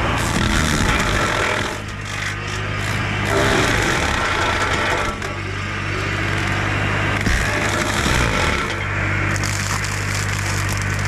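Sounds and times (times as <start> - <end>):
brush cutter shredding trees: 0.0 - 11.0
diesel engine hum: 0.0 - 11.0.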